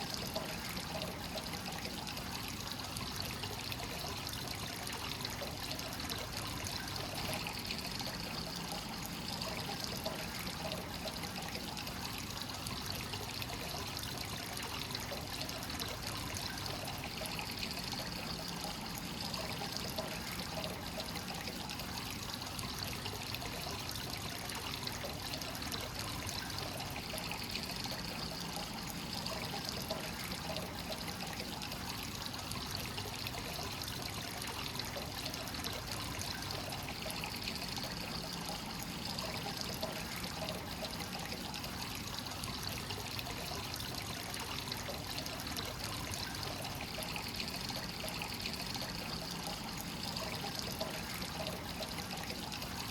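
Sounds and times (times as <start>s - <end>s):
water pouring into a bath: 0.0s - 52.9s.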